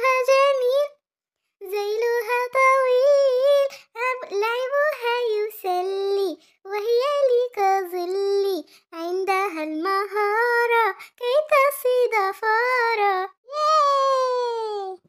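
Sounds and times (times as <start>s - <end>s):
child singing: 0.0s - 1.0s, 1.6s - 13.4s.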